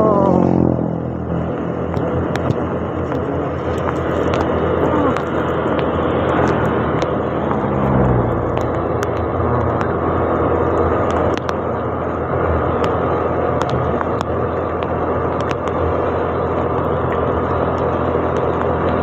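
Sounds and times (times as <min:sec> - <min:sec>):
motorcycle engine: 0:00.0 - 0:19.0
wet road noise: 0:00.0 - 0:19.0.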